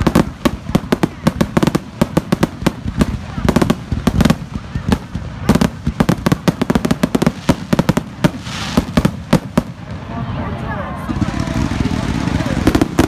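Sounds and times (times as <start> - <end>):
fireworks barrage bangs: 0.0 - 13.0.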